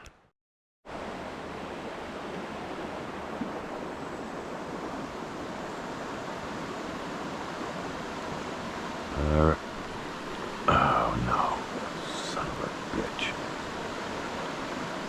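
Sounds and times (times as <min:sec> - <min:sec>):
river water flowing over rocks: 0:00.9 - 0:15.0.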